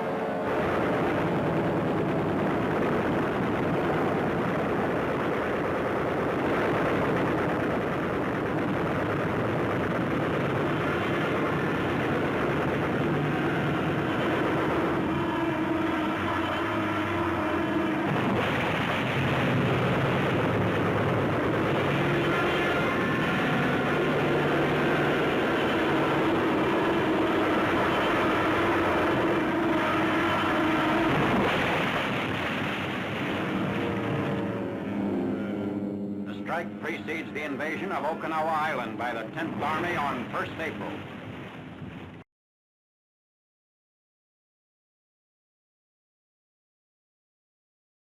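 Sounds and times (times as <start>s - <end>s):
aircraft engines droning: 0.0s - 42.2s.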